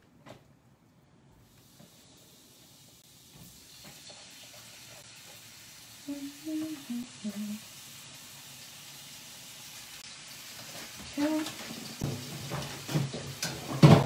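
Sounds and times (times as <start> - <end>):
meat sizzling in a pan: 1.4 - 13.7.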